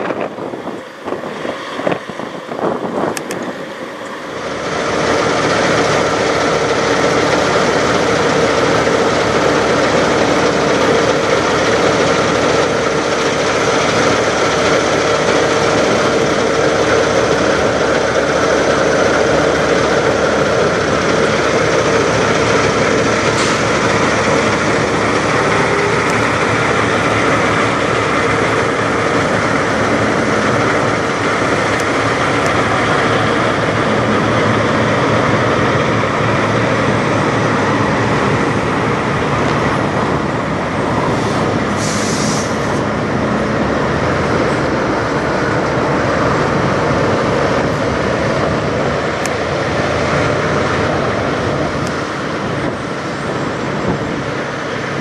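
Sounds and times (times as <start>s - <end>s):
diesel truck engine idling: 0.0s - 55.0s
wind on microphone: 0.0s - 55.0s.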